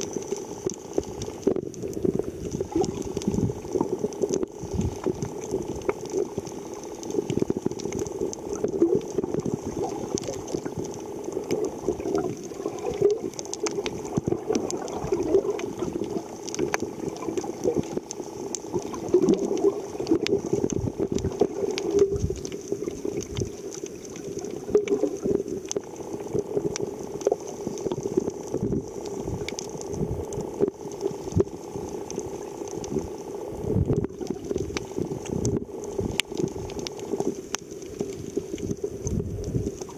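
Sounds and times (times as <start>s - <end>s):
small clicks and thumps: 0.0s - 33.2s, 33.8s - 39.9s
underwater churning and sloshing: 0.0s - 39.9s.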